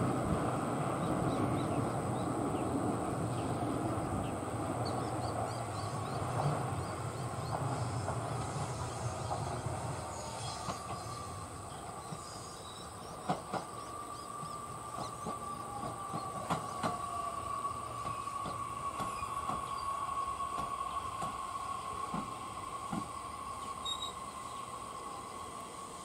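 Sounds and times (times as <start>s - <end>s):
electric train rumbling on rails: 0.0s - 26.0s.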